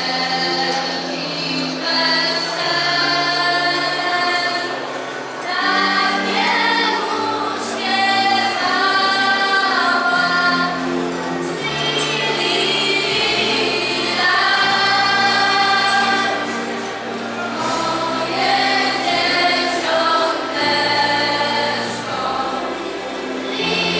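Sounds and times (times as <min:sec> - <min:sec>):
choir singing a carol: 0:00.0 - 0:23.9.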